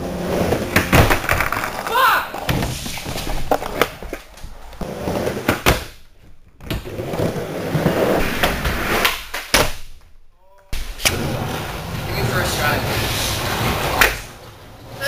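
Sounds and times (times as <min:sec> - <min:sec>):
skateboard wheels rolling on plywood: 0:00.0 - 0:09.8, 0:10.8 - 0:15.0.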